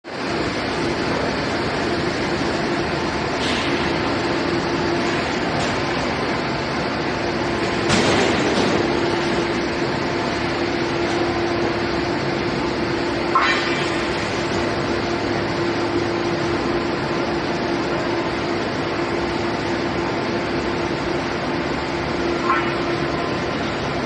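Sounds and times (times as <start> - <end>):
furnace plant mechanical hum: 0.0 - 24.0.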